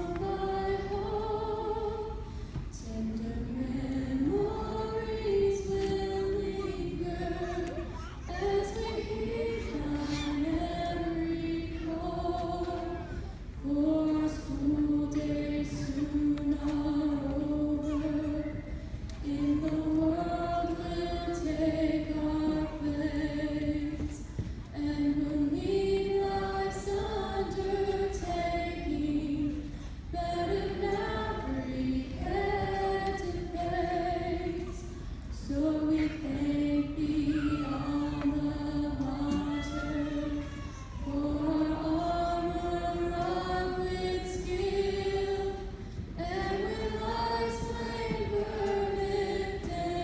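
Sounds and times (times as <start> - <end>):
large choir singing: 0.0 - 50.0.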